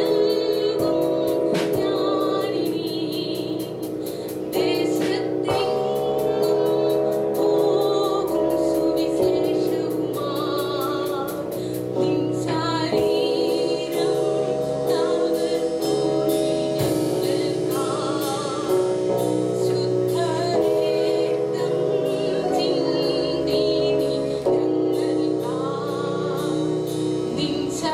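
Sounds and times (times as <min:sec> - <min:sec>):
band playing worship music: 0:00.0 - 0:27.9
voices singing together: 0:00.0 - 0:27.9.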